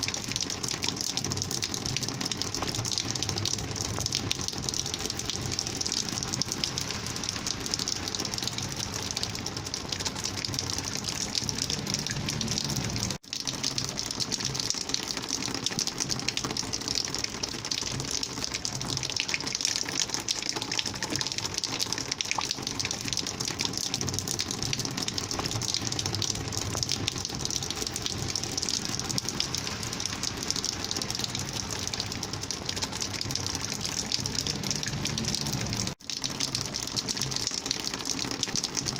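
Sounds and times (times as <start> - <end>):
rainwater gushing: 0.0 - 38.9.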